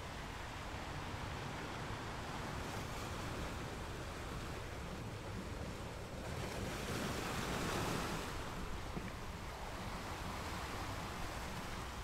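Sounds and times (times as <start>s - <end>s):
small waves breaking on a beach: 0.0s - 12.0s.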